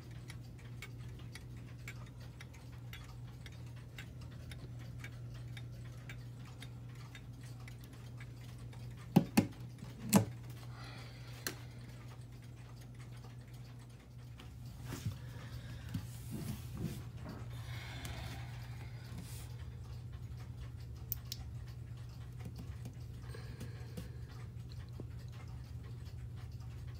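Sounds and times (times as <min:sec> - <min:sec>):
clock pendulum ticking: 0:00.0 - 0:26.9
steady low hum: 0:00.0 - 0:26.9.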